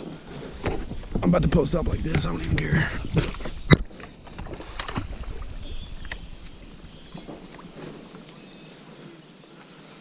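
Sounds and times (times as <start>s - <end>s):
reeds scraping along kayak hull: 0.0s - 10.0s.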